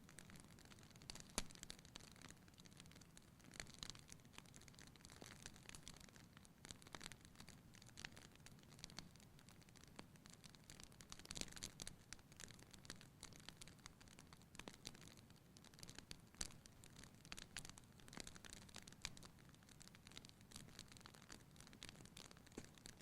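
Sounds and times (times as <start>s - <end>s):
low rumble of burning: 0.0s - 23.0s
wood fire crackling: 0.0s - 23.0s.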